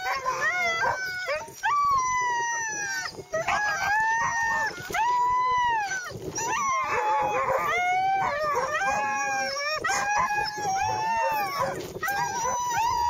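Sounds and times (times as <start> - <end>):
huskies howling and yelping: 0.0 - 13.0.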